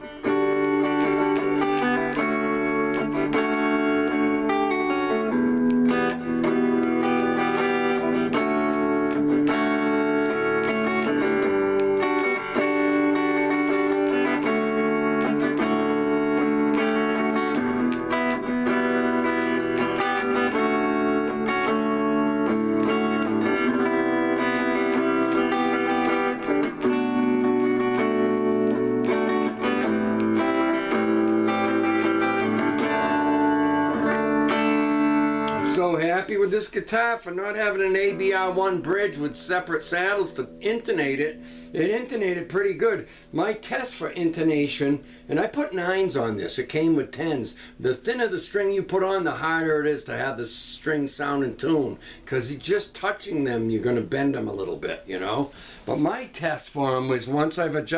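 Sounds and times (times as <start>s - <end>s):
clean electric guitar playing: 0.0s - 55.7s.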